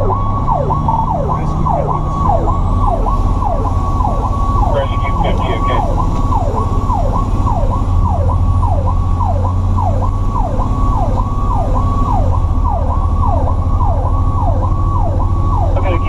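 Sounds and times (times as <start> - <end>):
emergency siren yelping: 0.0 - 16.0
truck engine drone: 0.0 - 16.0.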